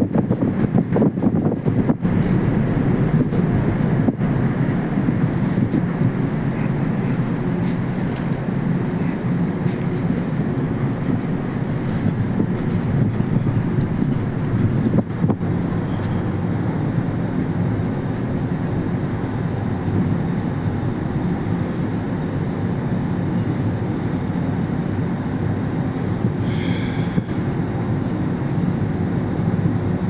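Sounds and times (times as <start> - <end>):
ferry engines rumbling: 0.0 - 30.0.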